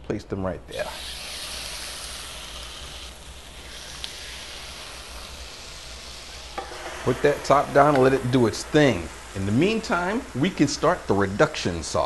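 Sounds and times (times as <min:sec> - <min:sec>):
chicken sizzling on a grill: 0:00.7 - 0:12.0.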